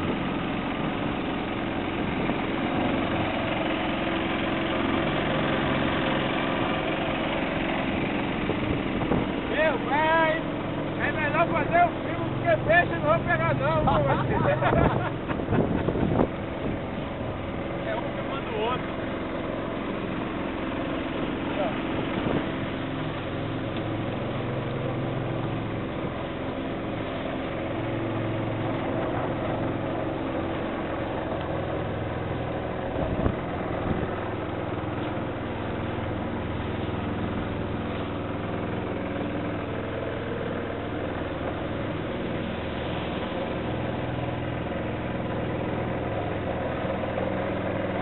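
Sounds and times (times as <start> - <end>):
boat motor running: 0.0 - 48.0
water noise: 0.0 - 48.0.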